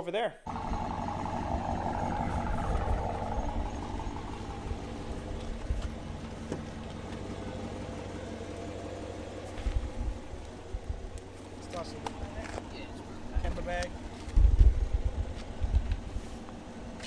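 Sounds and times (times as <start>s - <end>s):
car engine idling: 0.5s - 17.0s.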